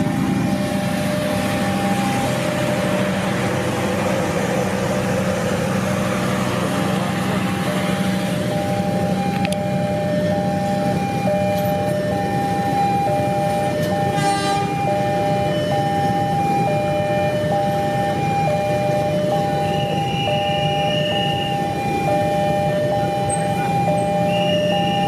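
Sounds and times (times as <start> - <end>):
long level high tones: 0.0 - 25.0
train rumbling on the line: 0.0 - 25.0.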